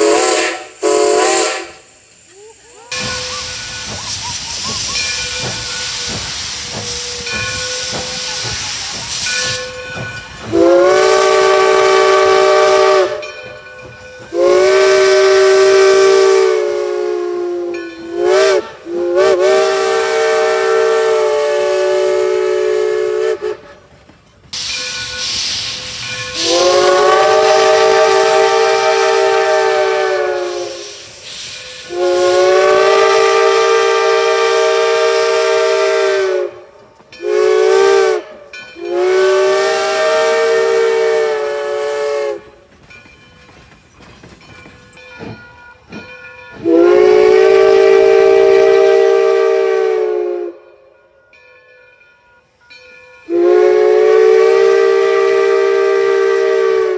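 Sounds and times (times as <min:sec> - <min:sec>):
steam locomotive whistle blasts: 0:00.0 - 0:02.0, 0:02.9 - 0:13.5, 0:14.2 - 0:23.9, 0:24.6 - 0:42.6, 0:46.6 - 0:51.0, 0:53.2 - 0:56.9
steam hissing: 0:00.0 - 0:50.6, 0:53.2 - 0:56.9.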